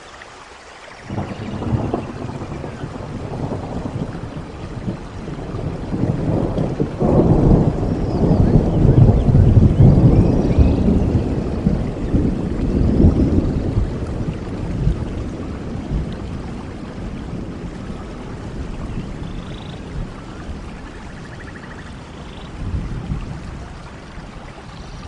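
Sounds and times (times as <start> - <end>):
rain falling in a forest: 0.0 - 25.0
thunder rumble: 1.0 - 25.0.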